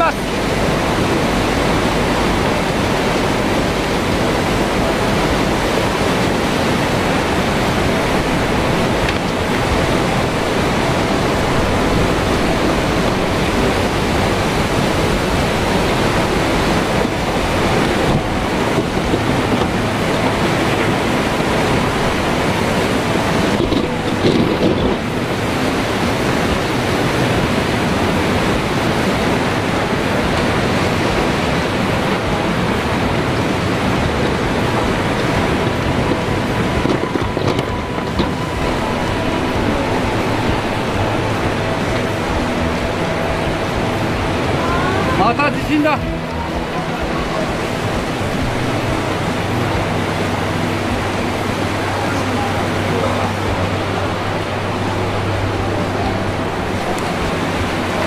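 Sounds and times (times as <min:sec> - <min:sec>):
floodwater surging and rushing: 0:00.0 - 0:58.0
wind buffeting microphone: 0:00.0 - 0:58.0.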